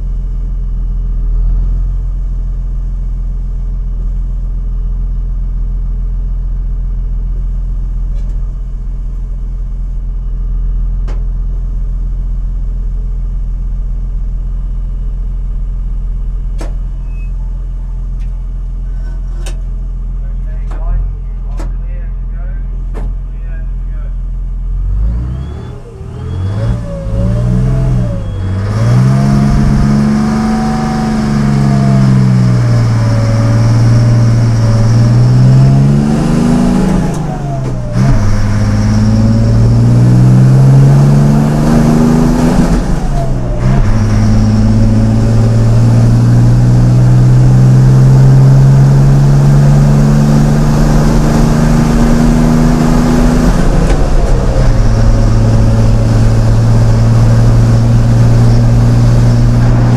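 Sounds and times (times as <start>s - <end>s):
tractor engine accelerating through gears: 0.0s - 59.9s.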